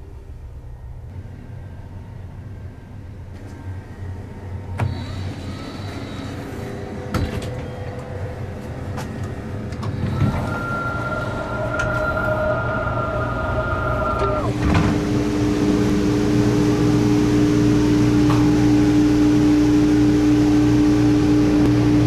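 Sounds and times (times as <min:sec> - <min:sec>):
steady whine: 0:00.0 - 0:22.0
train carriage hum and rumble: 0:00.0 - 0:22.0.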